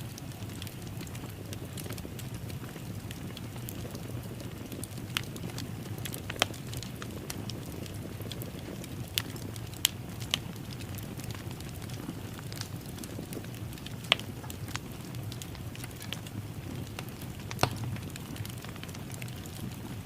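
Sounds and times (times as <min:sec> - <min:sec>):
flame rumble: 0:00.0 - 0:20.0
wood fire crackling: 0:00.0 - 0:20.0.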